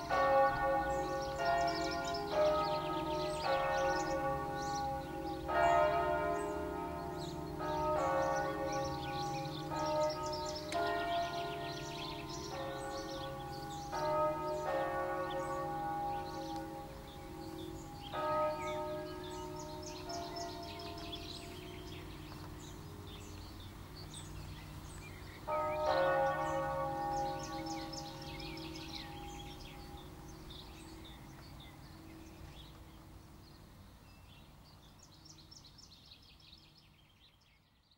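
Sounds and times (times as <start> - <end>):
church bells ringing: 0.0 - 33.2
small birds chirping: 0.8 - 37.9.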